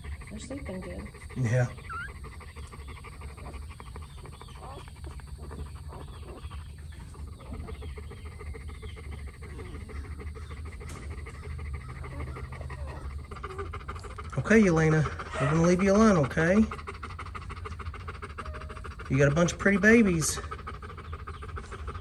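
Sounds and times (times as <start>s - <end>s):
dog panting rapidly: 0.0s - 22.0s
puppies squeaking: 0.0s - 22.0s.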